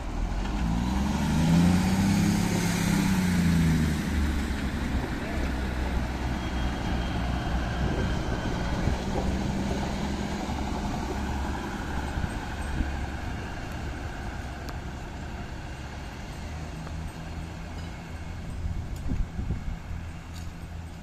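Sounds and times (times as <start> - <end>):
railcar diesel engine drone: 0.0 - 21.0.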